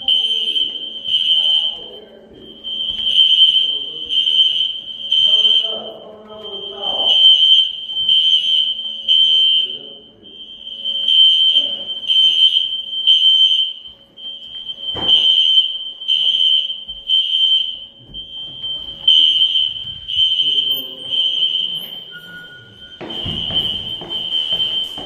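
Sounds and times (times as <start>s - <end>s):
fire alarm beeping: 0.0s - 25.0s.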